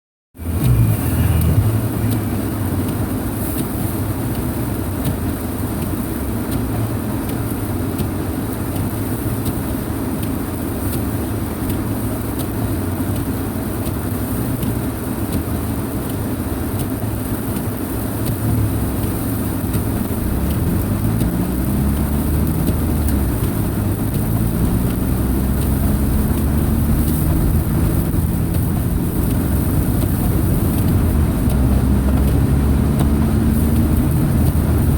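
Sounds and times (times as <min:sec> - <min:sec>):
road noise: 0:00.3 - 0:34.9
car engine running: 0:00.4 - 0:34.9.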